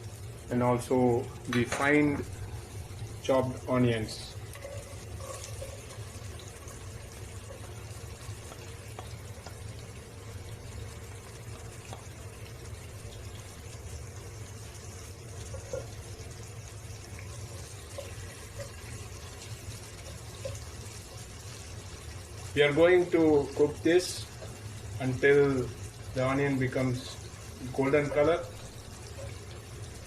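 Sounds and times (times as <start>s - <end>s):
constant low hum: 0.0s - 30.0s
onions sizzling in hot oil: 0.0s - 30.0s.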